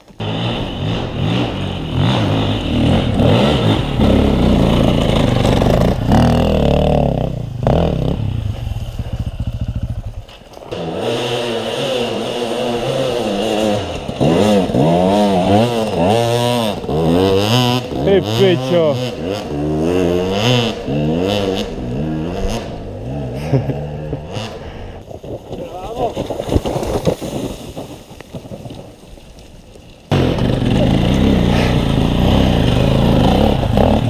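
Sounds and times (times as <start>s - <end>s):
dirt bike engines revving: 0.0s - 25.0s, 30.1s - 34.0s.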